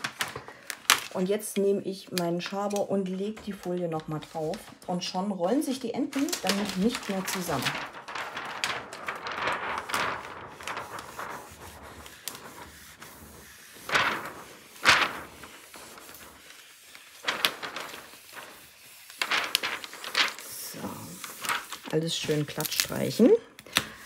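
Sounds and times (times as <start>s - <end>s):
plastic film rustling and crinkling: 0.0s - 24.0s.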